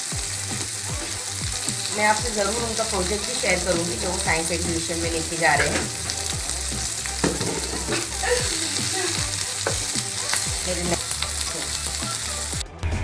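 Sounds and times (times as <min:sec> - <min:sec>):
meat sizzling in oil: 0:00.0 - 0:12.6.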